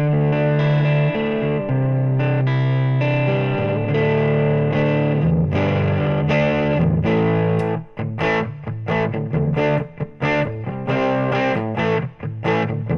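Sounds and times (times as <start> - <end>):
overdriven electric guitar: 0.0 - 12.9.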